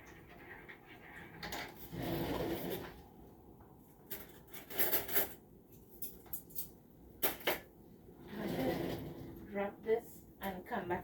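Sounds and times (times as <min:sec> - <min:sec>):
kitchenware scraping: 0:00.0 - 0:03.2, 0:03.9 - 0:09.7.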